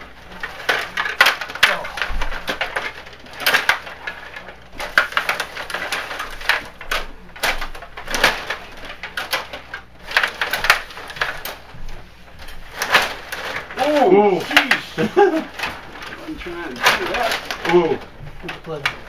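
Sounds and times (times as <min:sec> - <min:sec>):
table hockey rods rattling: 0:00.0 - 0:19.0.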